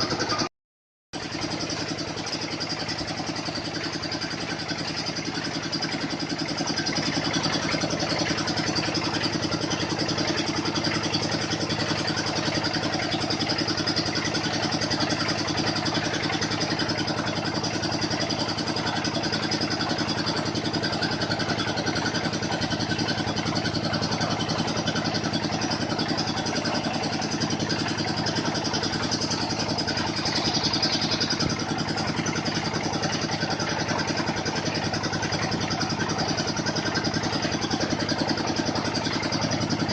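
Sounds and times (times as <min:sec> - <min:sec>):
drilling machine engine running: 0:00.0 - 0:00.5, 0:01.2 - 0:39.9.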